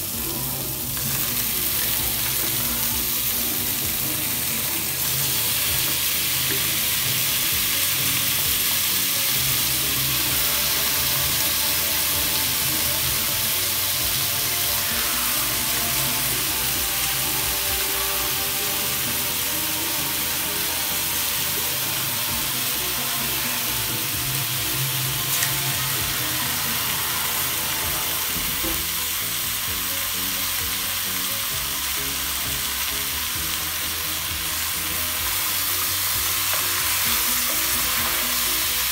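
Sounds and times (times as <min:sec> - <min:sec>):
food sizzling in a pot: 0:00.0 - 0:38.9.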